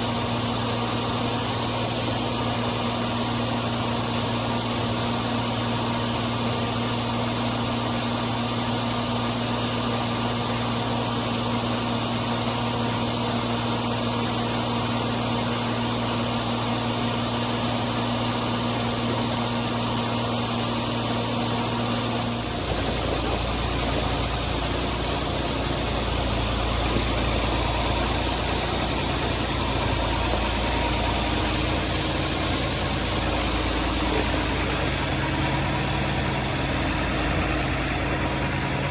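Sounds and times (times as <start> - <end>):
diesel tractor engine running: 0.0 - 38.9
hammermill grinding corn: 0.0 - 38.9.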